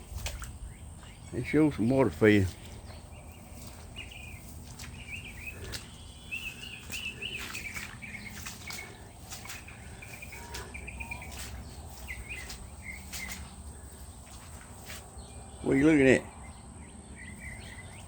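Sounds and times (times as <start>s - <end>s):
birds chirping and warbling: 0.0s - 18.0s.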